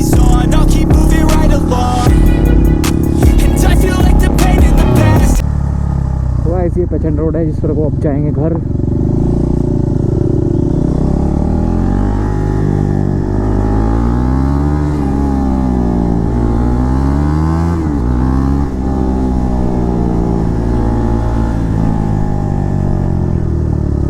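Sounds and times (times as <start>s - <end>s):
motorcycle accelerating: 0.0s - 24.0s.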